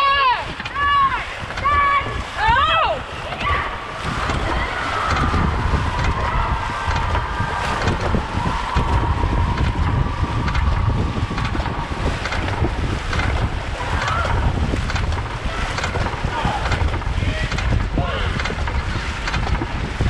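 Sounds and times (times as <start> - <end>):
rushing splashing water: 0.0 - 20.0
wind buffeting the microphone: 0.0 - 20.0.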